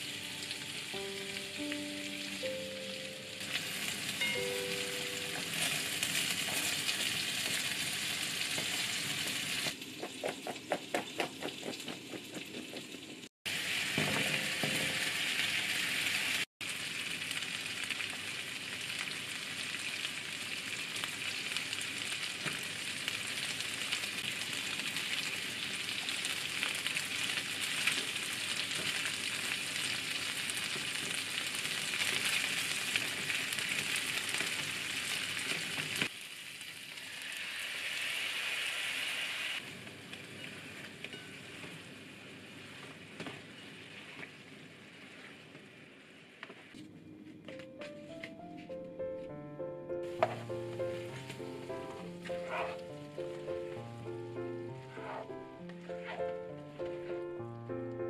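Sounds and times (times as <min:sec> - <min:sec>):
food sizzling in frying pan: 0:00.0 - 0:46.8, 0:50.0 - 0:57.2.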